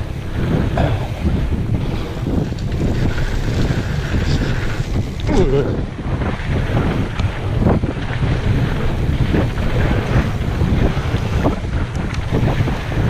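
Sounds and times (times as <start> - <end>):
bike rattling: 0.0 - 13.0
tyres rumbling on dirt trail: 0.0 - 13.0
wind buffeting microphone: 0.0 - 13.0.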